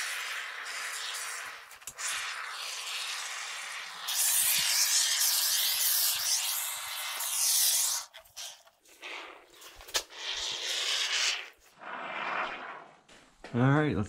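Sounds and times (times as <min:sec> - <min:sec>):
spray foam can hissing: 0:00.0 - 0:12.8.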